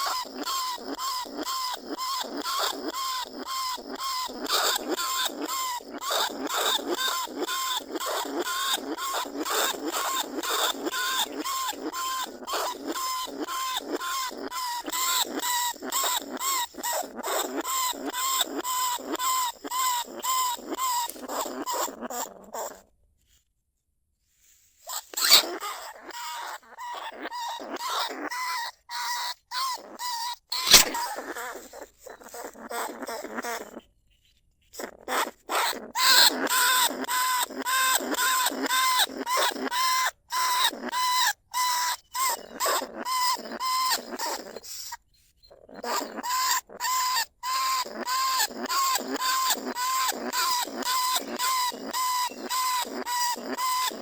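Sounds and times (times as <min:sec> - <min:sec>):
rat squeaking: 0:00.0 - 0:22.9, 0:24.9 - 0:54.0.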